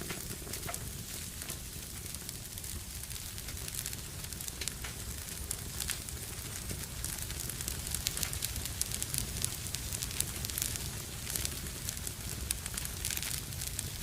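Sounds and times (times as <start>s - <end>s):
fire crackling in fireplace: 0.0s - 14.0s.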